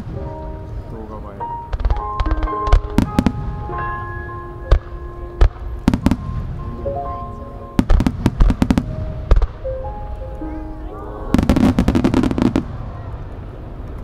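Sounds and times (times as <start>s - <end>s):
music with long held notes: 0.0s - 13.4s.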